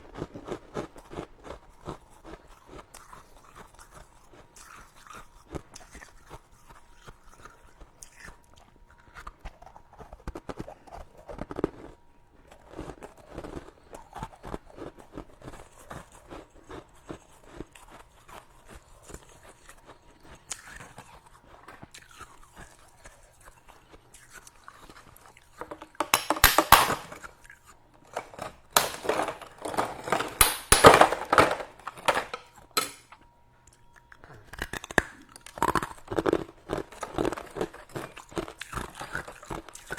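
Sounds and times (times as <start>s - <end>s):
chewing frost crunching: 0.0s - 26.1s, 31.7s - 39.9s.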